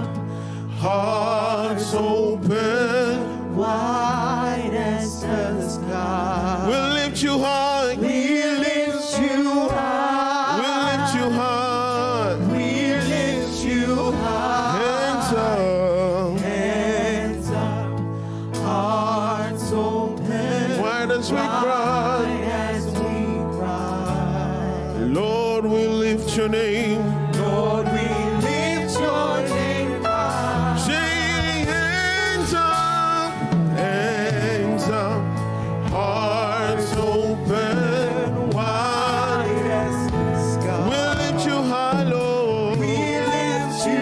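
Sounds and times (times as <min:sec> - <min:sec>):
band chords and bass: 0:00.0 - 0:44.0
man and woman singing gospel: 0:00.0 - 0:44.0.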